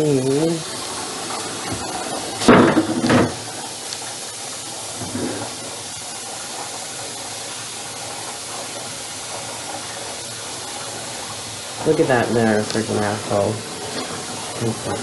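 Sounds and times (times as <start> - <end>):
tap water running into a pot: 0.0 - 15.0.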